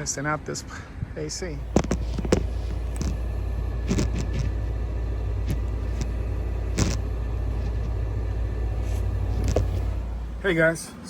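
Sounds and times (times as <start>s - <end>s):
air conditioner humming: 1.4s - 11.0s.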